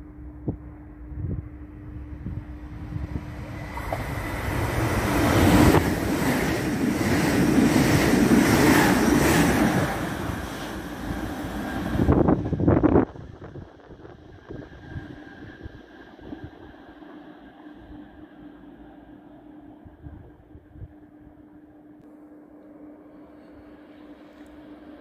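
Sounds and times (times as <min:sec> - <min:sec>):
steady low hum: 0:00.0 - 0:25.0
train passing rumble and rush: 0:00.0 - 0:25.0.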